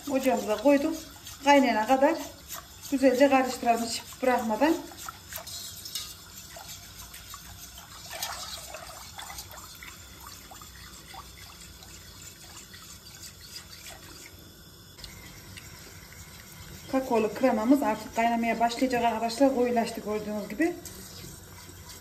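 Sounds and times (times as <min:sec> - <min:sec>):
whisk ticking on metal pot: 0:00.0 - 0:14.3, 0:15.0 - 0:22.0
whisk stirring liquid in a pot: 0:00.0 - 0:22.0.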